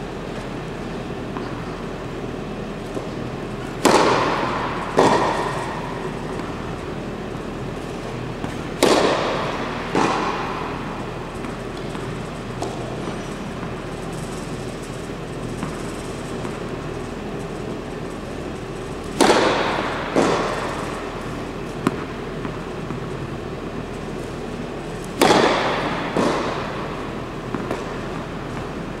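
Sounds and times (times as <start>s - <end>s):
steady background noise: 0.0s - 29.0s
racket striking tennis ball: 2.9s - 7.2s, 7.8s - 29.0s.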